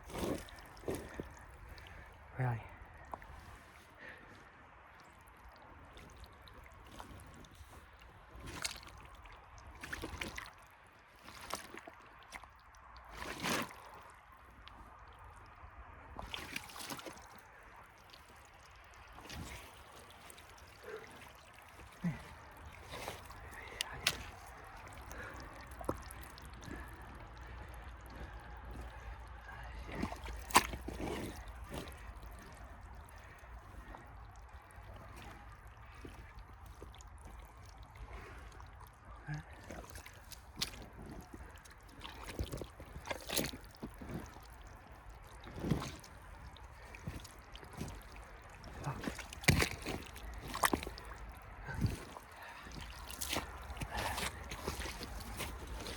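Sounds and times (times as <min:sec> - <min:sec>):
rubber boots squelching in mud: 0:00.0 - 0:55.9
wet splashes: 0:00.0 - 0:55.9.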